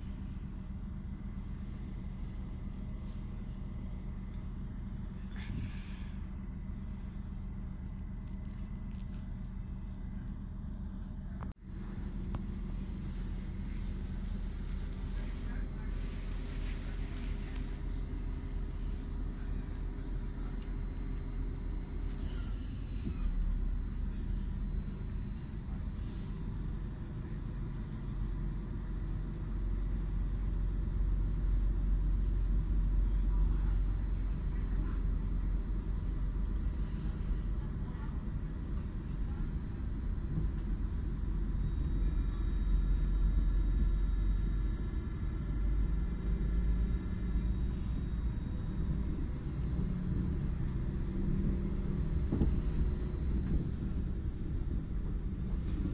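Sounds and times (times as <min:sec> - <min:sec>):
train rumbling: 0:00.0 - 0:55.9.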